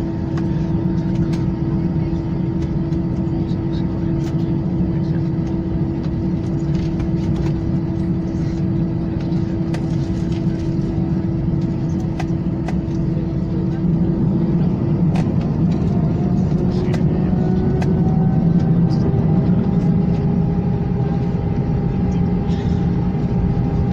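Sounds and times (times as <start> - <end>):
aircraft engines hum in cabin: 0.0 - 23.9.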